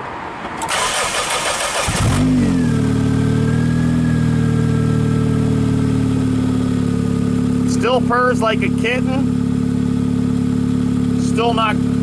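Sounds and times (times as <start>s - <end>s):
car engine idling: 0.7s - 12.0s.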